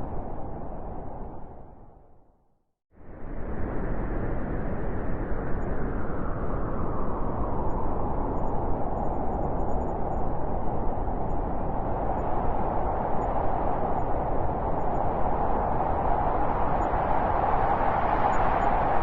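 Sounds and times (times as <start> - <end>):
blizzard wind rushing: 3.0 - 19.0.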